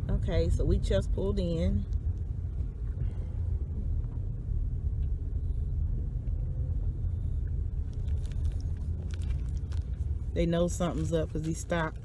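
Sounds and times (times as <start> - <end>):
car rumbling from inside cabin: 0.0 - 12.0.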